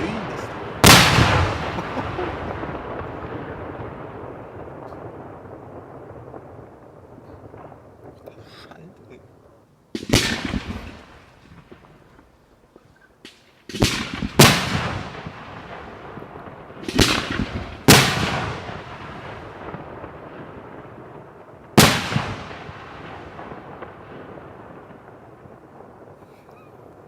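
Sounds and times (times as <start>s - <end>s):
firework bangs with rolling echo: 0.0s - 8.6s, 9.9s - 12.5s, 13.2s - 27.0s.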